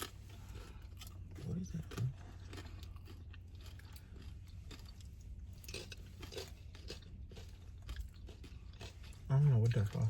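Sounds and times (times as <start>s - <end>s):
person chewing and crunching chips: 0.0s - 10.0s.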